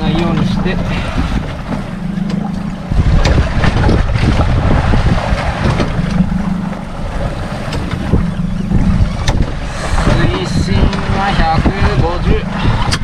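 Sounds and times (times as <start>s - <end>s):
steady low hum: 0.0s - 13.0s
water splashing against boat hull: 0.0s - 13.0s
wind buffeting microphone: 0.0s - 13.0s.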